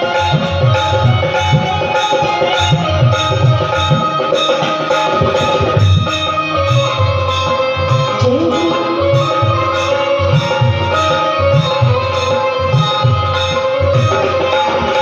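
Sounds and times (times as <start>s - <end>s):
hand drum beat: 0.0s - 15.0s
long held melodic tones: 0.0s - 15.0s.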